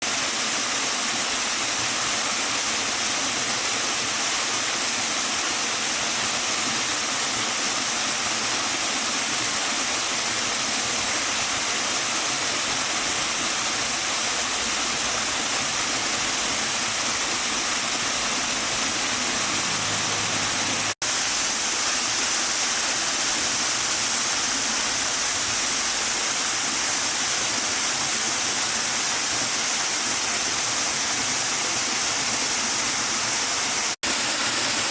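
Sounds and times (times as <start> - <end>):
waterfall rushing: 5.3 - 34.9.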